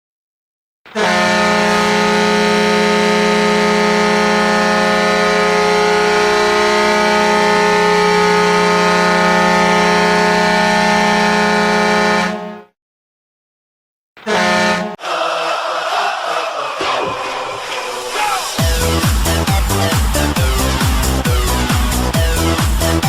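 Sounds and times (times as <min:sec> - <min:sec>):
goal horn blast: 0:00.9 - 0:12.7, 0:14.2 - 0:23.0.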